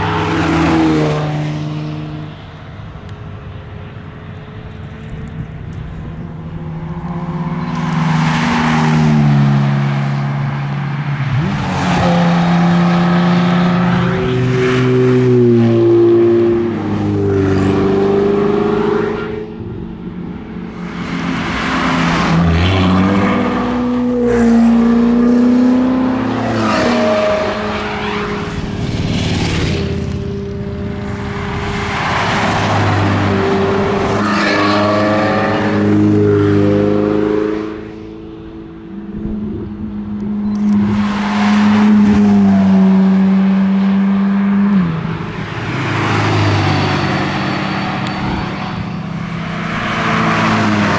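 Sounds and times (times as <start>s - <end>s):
sports car engines revving past: 0.0s - 50.9s.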